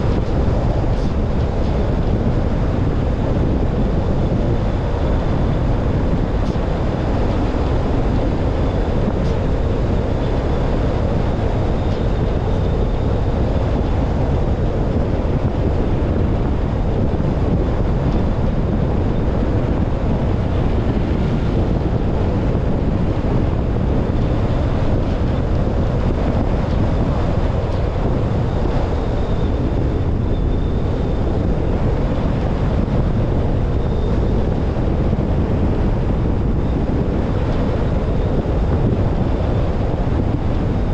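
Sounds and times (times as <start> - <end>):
tyres rumbling on road: 0.0 - 40.9
wind buffeting microphone: 0.0 - 40.9.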